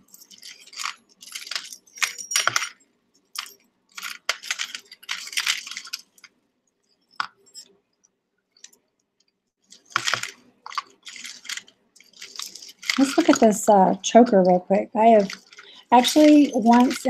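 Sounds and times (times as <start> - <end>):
jewelry jingling and clinking: 0.0 - 8.0, 9.6 - 13.6, 15.0 - 17.0.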